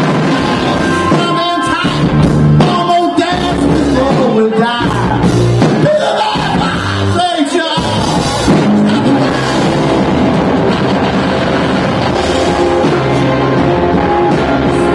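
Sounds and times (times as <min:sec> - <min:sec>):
bass guitar: 0:00.0 - 0:14.9
drums: 0:00.0 - 0:14.9
electric guitars: 0:00.0 - 0:14.9
lead vocal singing: 0:00.6 - 0:10.1, 0:12.0 - 0:14.9.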